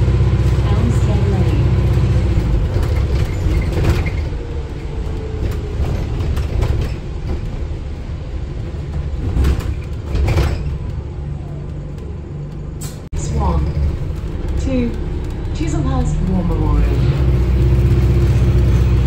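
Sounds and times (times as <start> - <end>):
bus body rattles and knocks: 0.0 - 19.0
bus drivetrain rumble: 0.0 - 19.0.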